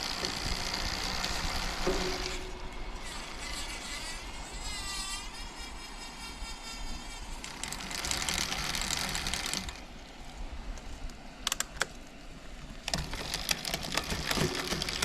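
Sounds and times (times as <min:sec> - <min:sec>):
bicycle freehub whirring: 0:00.0 - 0:10.9, 0:12.8 - 0:15.0.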